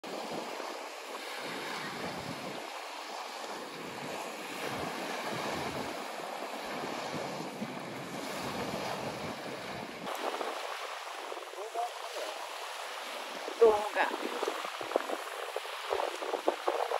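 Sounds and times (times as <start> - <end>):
sea surf on sandy shore: 0.0 - 16.9
wind buffeting microphone: 0.1 - 16.9.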